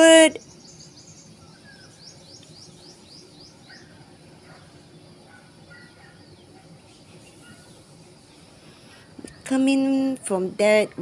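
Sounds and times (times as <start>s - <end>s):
bird chirping: 0.0s - 10.8s
outdoor background noise: 0.0s - 11.0s.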